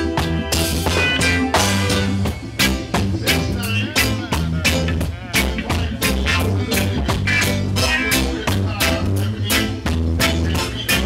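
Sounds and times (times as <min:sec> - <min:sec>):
bass guitar: 0:00.0 - 0:11.0
drum kit: 0:00.0 - 0:11.0
electric guitar: 0:00.0 - 0:11.0
keyboard: 0:00.0 - 0:11.0.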